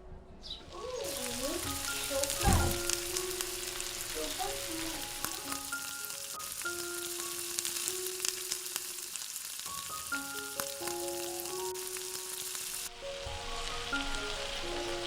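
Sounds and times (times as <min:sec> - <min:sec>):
soft melody of held notes: 0:00.4 - 0:09.2, 0:09.8 - 0:15.0
curry sizzling in hot oil: 0:00.7 - 0:15.0.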